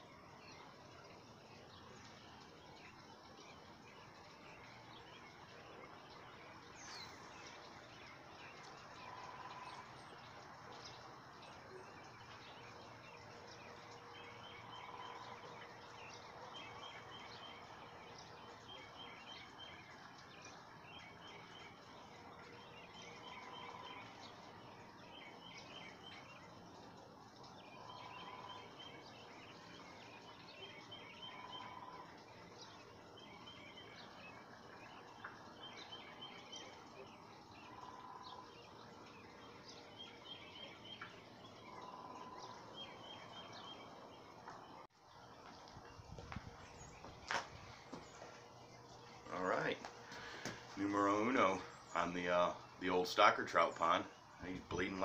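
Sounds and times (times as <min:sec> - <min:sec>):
lower bird calls: 0:01.6 - 0:53.0.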